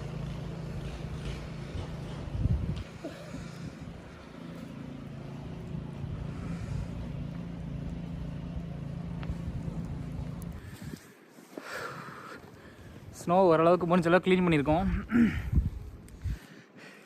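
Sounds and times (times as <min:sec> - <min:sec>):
engine humming: 0:00.0 - 0:16.5.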